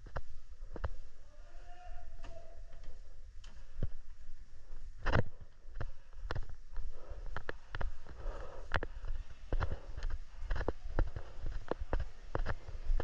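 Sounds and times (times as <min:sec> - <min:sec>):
footsteps: 0:00.0 - 0:13.0.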